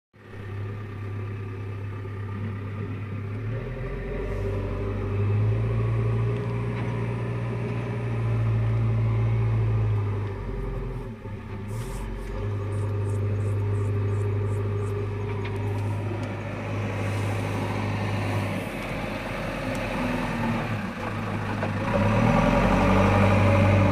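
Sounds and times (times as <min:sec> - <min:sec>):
diesel engine droning: 0:00.2 - 0:23.9.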